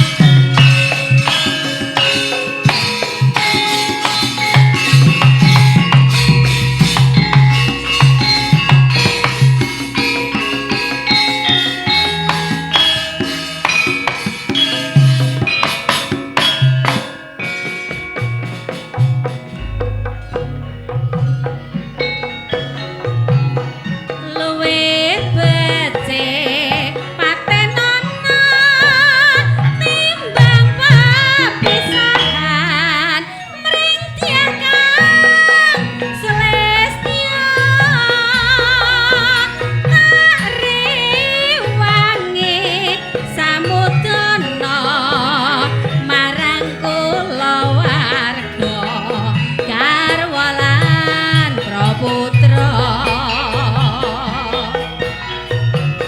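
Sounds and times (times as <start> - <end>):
hand drum beats: 0.0 - 56.0
wavering melody with vibrato: 0.0 - 56.0.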